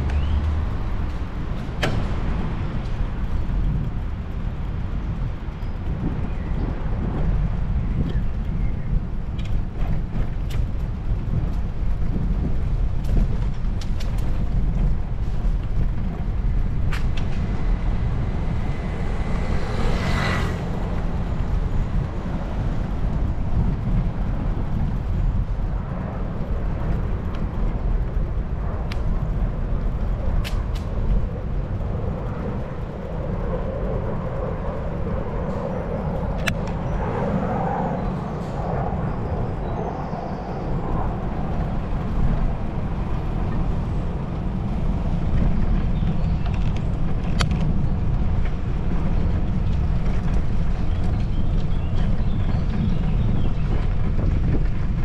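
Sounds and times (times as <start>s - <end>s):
bicycle riding rumble: 0.0s - 55.0s
wind buffeting microphone: 0.0s - 55.0s.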